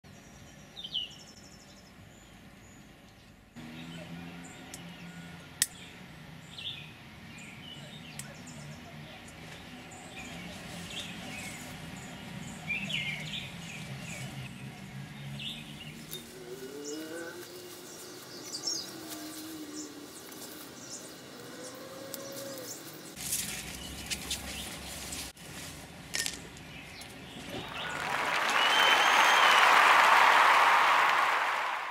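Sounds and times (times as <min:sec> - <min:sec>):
birds chirping: 0:00.2 - 0:24.8, 0:26.4 - 0:31.8.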